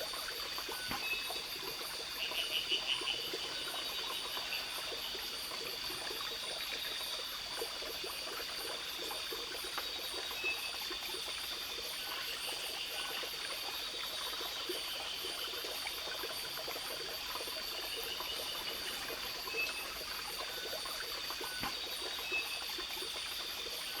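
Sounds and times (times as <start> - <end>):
insect chorus: 0.0 - 24.0
stream water trickling: 0.0 - 24.0.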